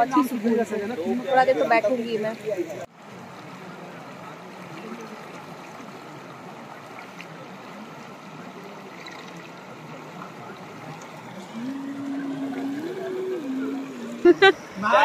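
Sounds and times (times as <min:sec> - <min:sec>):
river water flowing over rocks: 0:02.2 - 0:15.0.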